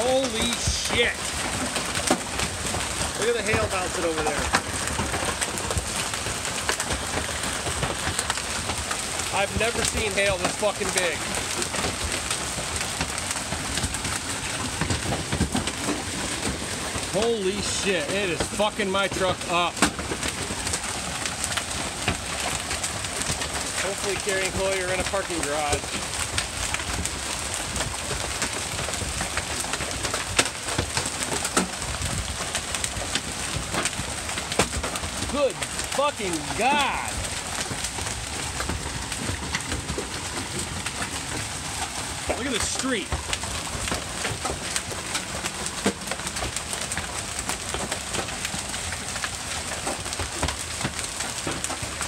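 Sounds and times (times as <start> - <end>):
hailstones pelting down: 0.0 - 52.0.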